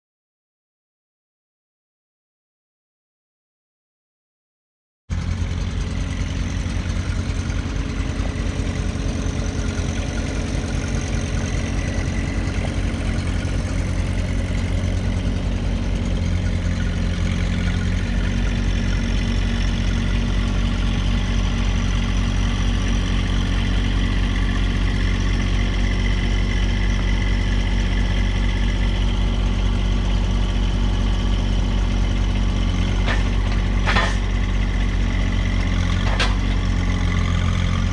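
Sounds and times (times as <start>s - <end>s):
tractor engine rumbling: 5.1s - 37.9s.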